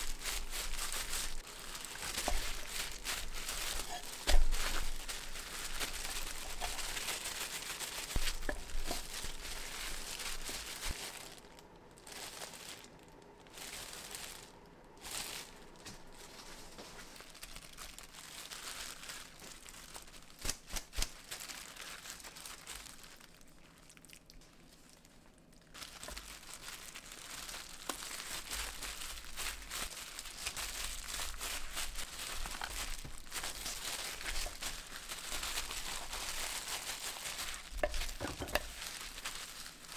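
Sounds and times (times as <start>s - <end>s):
crinkling handling noise: 0.0s - 39.9s.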